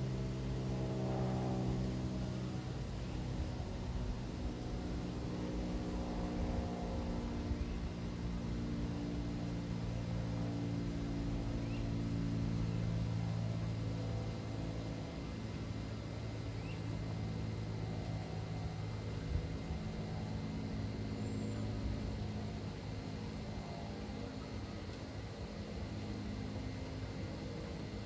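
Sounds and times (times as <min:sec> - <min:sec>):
jet plane droning overhead: 0:00.0 - 0:28.0.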